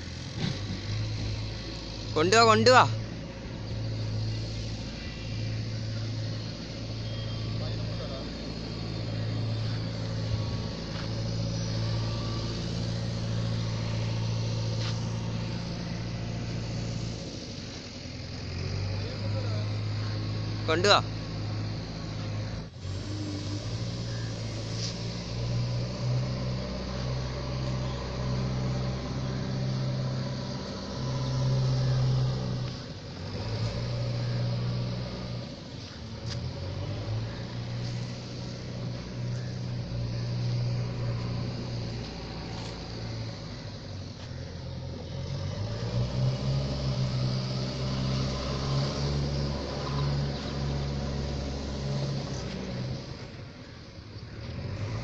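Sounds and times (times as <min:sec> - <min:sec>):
electric motor and propeller buzzing: 0:00.0 - 0:55.0.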